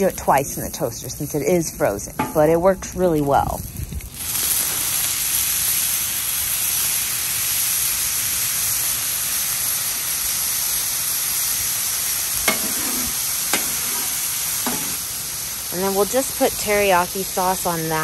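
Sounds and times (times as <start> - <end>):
food sizzling on a griddle: 0.0 - 18.0.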